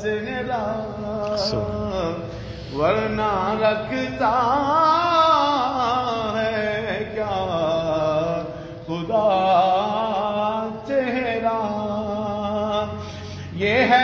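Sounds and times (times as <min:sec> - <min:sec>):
man singing devotional poem: 0:00.0 - 0:14.0.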